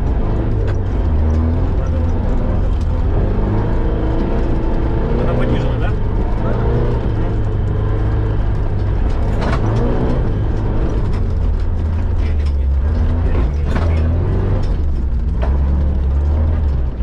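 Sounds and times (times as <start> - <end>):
body and suspension rattling: 0.0 - 17.0
car engine running at low revs: 0.0 - 17.0.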